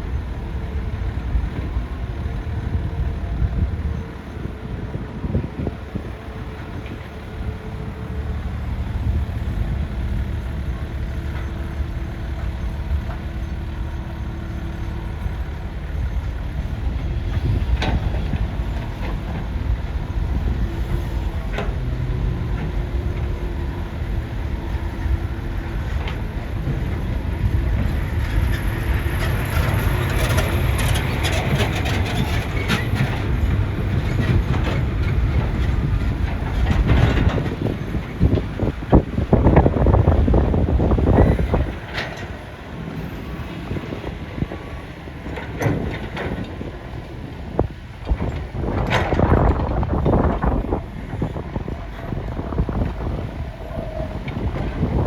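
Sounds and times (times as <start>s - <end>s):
excavator drone: 0.0s - 55.0s
excavator clicking and scraping: 0.1s - 55.0s.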